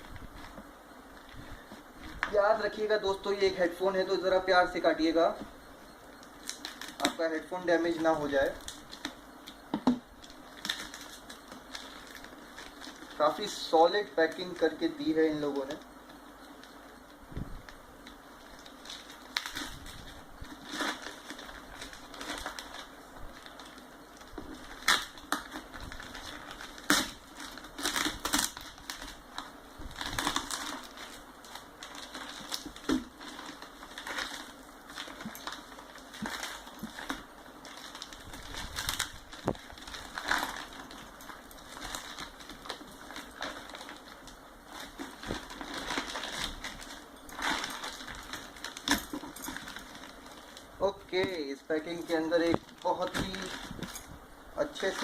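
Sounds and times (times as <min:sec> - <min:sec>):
packaging crinkling and tearing: 0:06.2 - 0:09.5, 0:10.2 - 0:15.9, 0:17.6 - 0:55.0.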